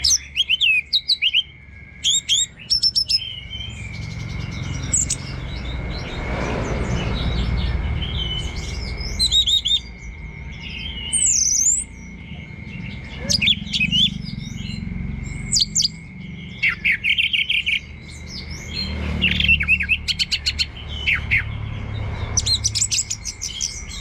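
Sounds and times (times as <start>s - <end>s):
thrush singing: 0.0s - 24.0s.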